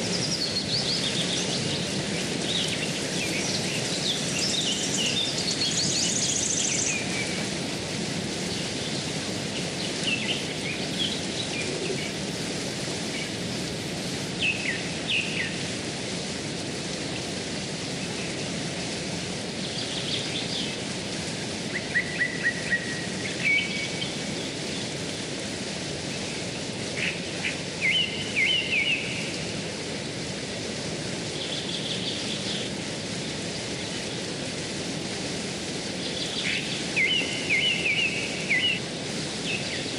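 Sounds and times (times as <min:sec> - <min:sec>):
rushing rocky stream: 0:00.0 - 0:39.9.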